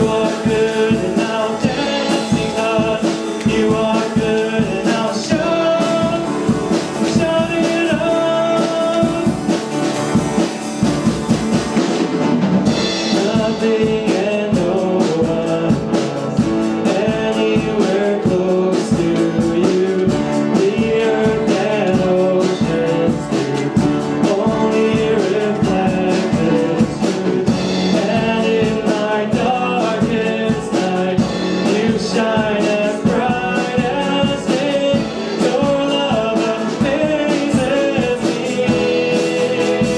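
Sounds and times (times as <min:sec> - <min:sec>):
person singing: 0:00.0 - 0:10.9, 0:12.6 - 0:39.9
worship band playing: 0:00.0 - 0:39.9.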